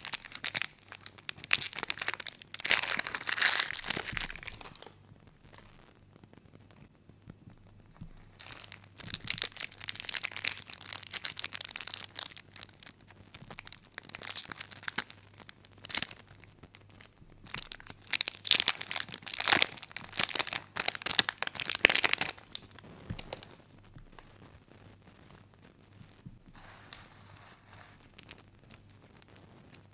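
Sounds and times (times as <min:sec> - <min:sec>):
plastic wrapper crinkling and tearing: 0:00.0 - 0:05.9, 0:08.2 - 0:24.3, 0:27.9 - 0:29.9.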